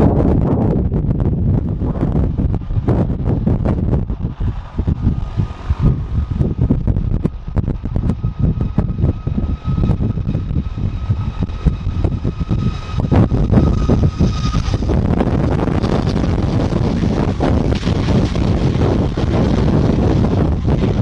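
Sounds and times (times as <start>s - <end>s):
broad rushing noise: 0.0s - 21.0s
jet engines whining: 0.0s - 21.0s
wind buffeting microphone: 0.0s - 21.0s.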